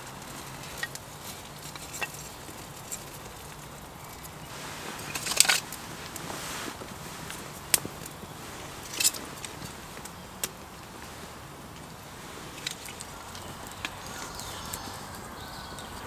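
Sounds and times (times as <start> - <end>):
campfire hissing: 0.0 - 16.0
fire crackles and pops: 0.0 - 16.0.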